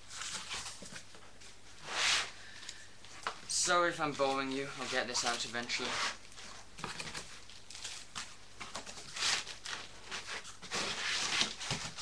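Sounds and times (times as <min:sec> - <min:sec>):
cardboard and polystyrene rustling: 0:00.0 - 0:02.4, 0:03.5 - 0:12.0.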